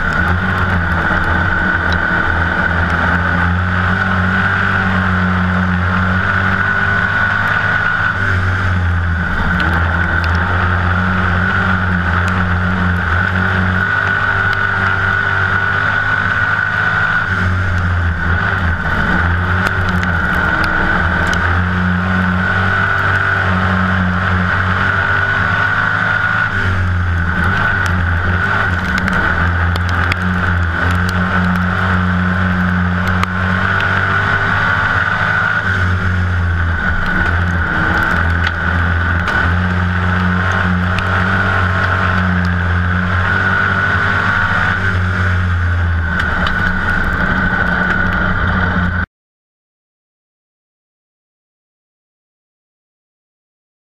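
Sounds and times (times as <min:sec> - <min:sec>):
race car engine running hard: 0:00.0 - 0:49.1.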